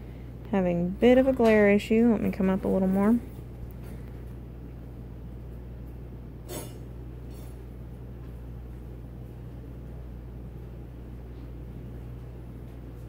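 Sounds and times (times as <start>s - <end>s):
room equipment hum: 0.0s - 13.0s.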